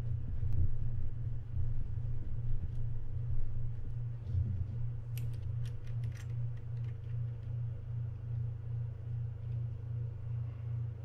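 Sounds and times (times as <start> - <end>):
low pulsing hum: 0.0 - 11.0.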